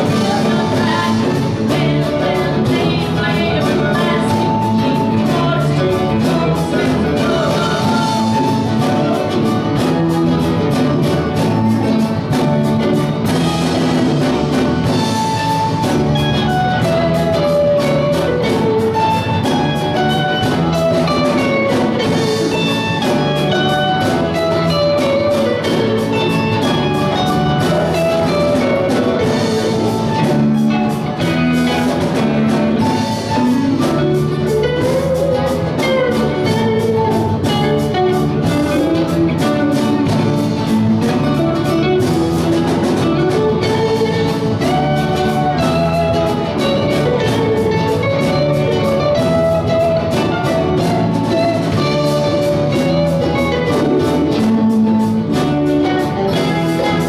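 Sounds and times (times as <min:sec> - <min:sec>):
bass guitar: 0:00.0 - 0:57.0
drum kit beat: 0:00.0 - 0:57.0
electric guitar lead line: 0:00.0 - 0:57.0.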